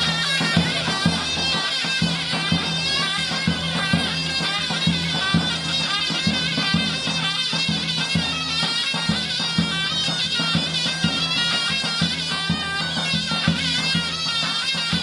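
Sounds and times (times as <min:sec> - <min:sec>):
drum beating steady rhythm: 0:00.0 - 0:15.0
shrill reed wind instrument: 0:00.0 - 0:15.0.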